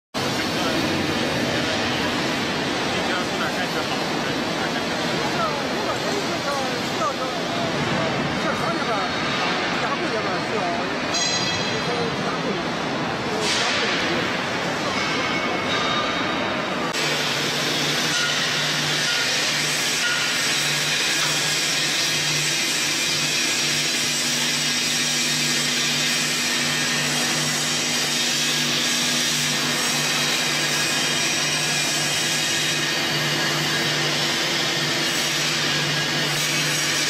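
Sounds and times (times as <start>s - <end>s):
industrial machinery hum and hiss: 0.2s - 37.0s.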